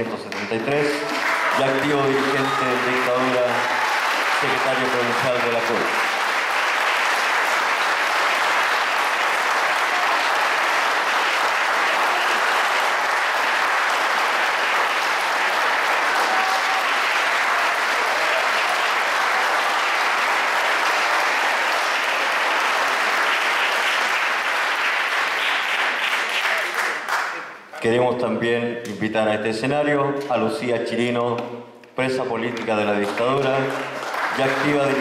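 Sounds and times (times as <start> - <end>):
audience applauding: 0.0 - 27.6, 32.3 - 35.0.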